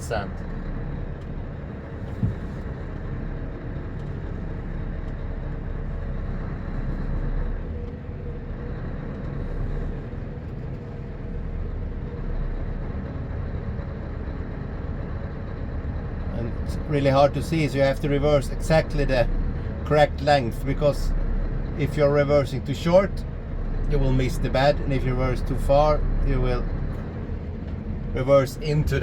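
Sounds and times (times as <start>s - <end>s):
truck diesel engine idling: 0.0s - 29.0s.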